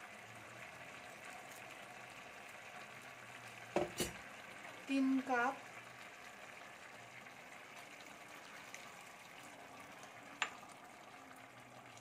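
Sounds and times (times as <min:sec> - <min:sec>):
hot pot sizzling: 0:00.0 - 0:12.0
water pouring into pot: 0:00.0 - 0:12.0.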